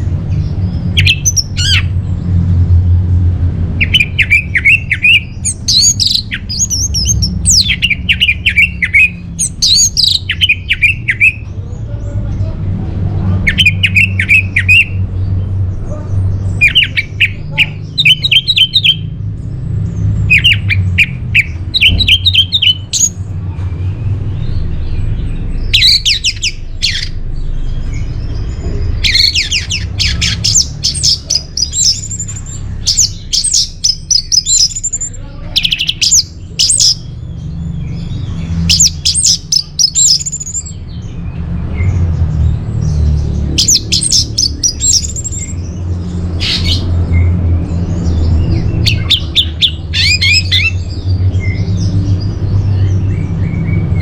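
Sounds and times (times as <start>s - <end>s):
thrush singing: 0.0s - 2.5s, 3.4s - 40.9s, 42.9s - 54.0s.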